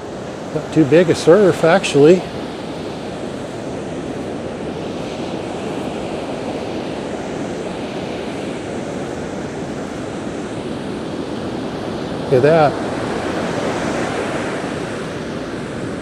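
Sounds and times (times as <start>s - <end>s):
calm ocean surf: 0.0s - 16.0s
wind on microphone: 0.0s - 16.0s.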